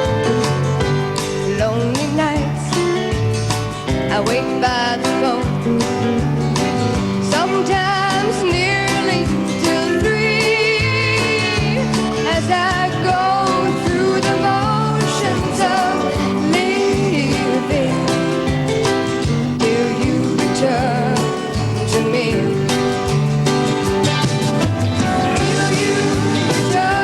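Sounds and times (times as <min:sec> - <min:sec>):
country band music with guitar: 0:00.0 - 0:27.0.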